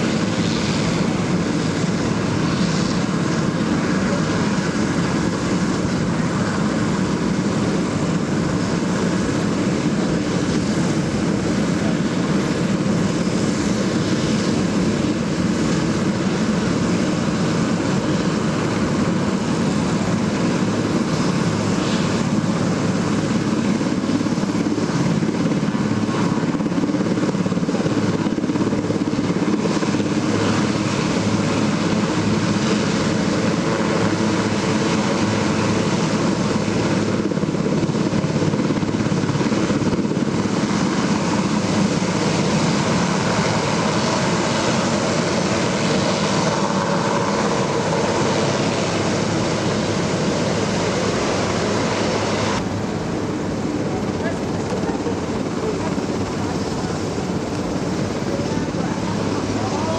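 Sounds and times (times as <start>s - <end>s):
aircraft noise: 0.0s - 59.9s.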